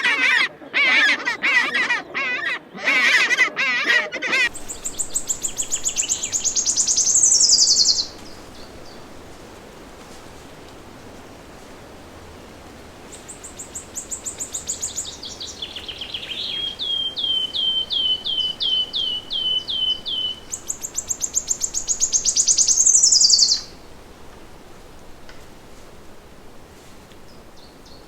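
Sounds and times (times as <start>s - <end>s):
songbird singing: 4.5s - 28.0s.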